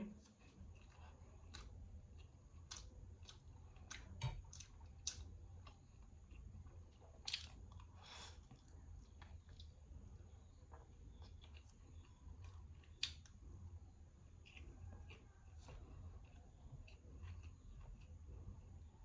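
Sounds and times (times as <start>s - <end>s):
mouth chewing noodles: 0.2s - 19.0s.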